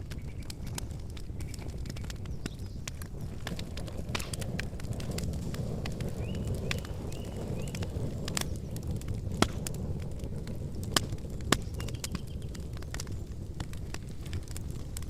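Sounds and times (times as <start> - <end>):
campfire crackling: 0.0 - 15.0
loud fire pops: 0.0 - 15.0.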